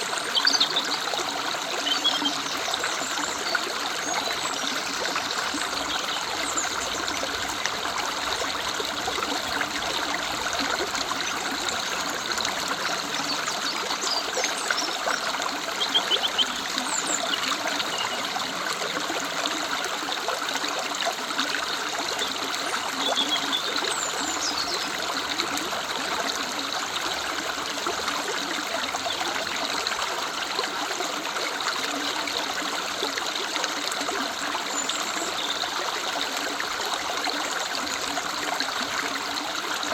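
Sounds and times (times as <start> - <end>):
river running: 0.0 - 39.9.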